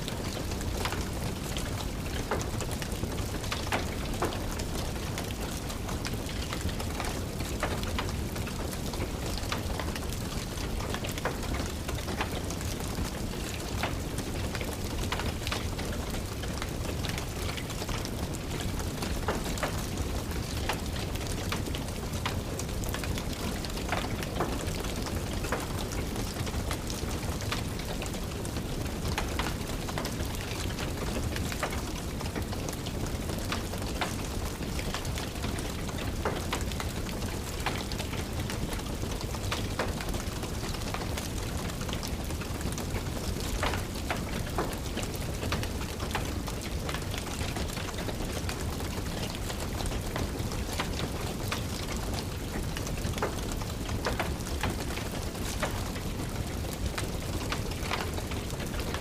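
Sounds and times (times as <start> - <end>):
steady rain: 0.0 - 59.0
wood fire crackling and popping: 0.1 - 59.0.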